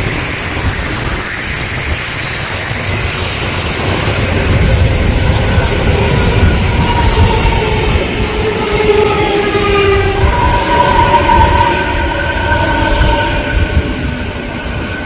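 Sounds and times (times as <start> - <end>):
train wheels rumbling on rail: 0.0 - 15.0
whine of steady tones: 0.0 - 15.0.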